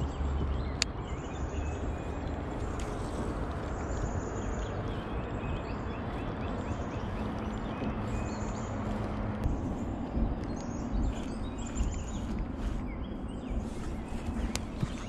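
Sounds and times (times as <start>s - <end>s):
outdoor background noise: 0.0s - 15.0s
small bird chirping: 0.0s - 15.0s.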